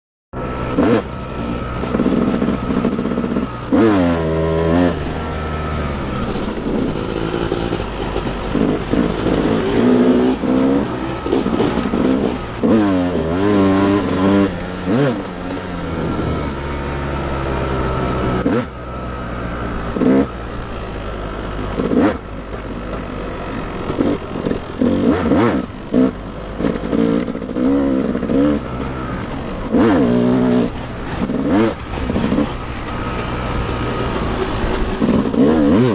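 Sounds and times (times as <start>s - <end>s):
dirt bike engine revving: 0.4s - 35.9s.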